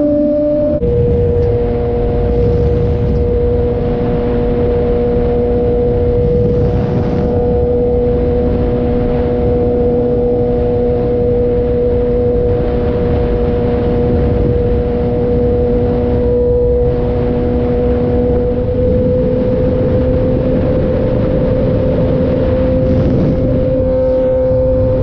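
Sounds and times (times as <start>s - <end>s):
motorcycle engine steady revs: 0.0s - 25.0s
rushing noise: 0.8s - 25.0s.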